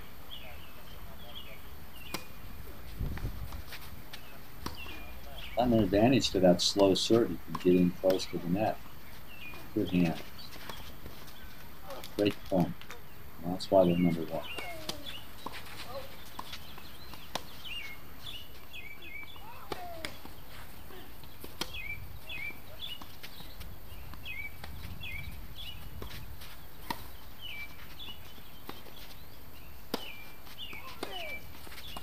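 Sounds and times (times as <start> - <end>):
bird chirping: 0.0 - 2.8, 4.1 - 32.0
tennis balls struck by rackets: 2.0 - 25.2, 25.9 - 32.0.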